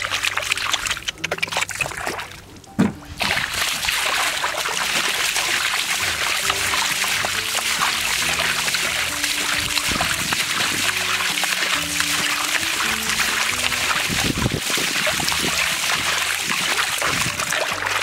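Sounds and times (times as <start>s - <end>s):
background music: 0.0s - 18.0s
loud splash: 0.0s - 18.0s
mud and water spattering: 0.0s - 18.0s
hands splashing in muddy water: 3.2s - 18.0s.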